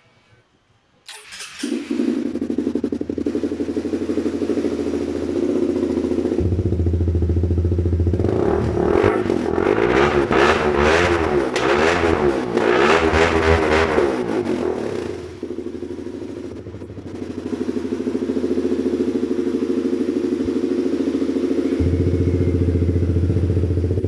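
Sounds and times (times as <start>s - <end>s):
motorcycle idling and revving: 1.3s - 24.0s.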